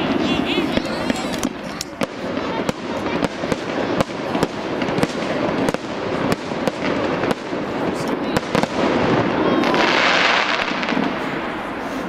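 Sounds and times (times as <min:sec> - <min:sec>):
continuous noise: 0:00.0 - 0:12.0
fireworks bangs: 0:00.0 - 0:12.0.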